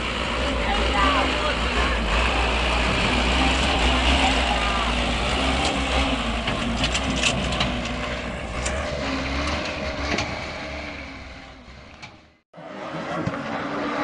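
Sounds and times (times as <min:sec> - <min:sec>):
truck engine rumbling under load: 0:00.0 - 0:14.0.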